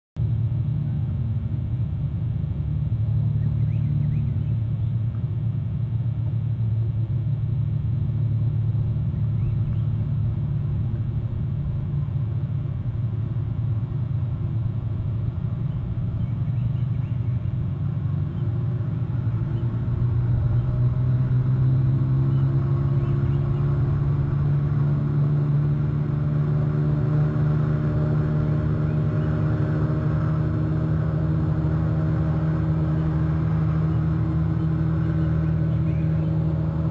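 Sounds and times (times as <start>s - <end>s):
approaching motor drone: 0.2s - 36.9s
distant engine rumble: 0.2s - 36.9s.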